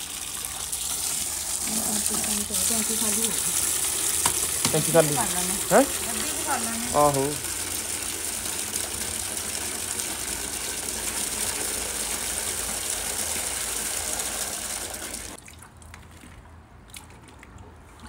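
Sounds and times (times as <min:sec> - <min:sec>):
water gushing from tap: 0:00.0 - 0:15.4.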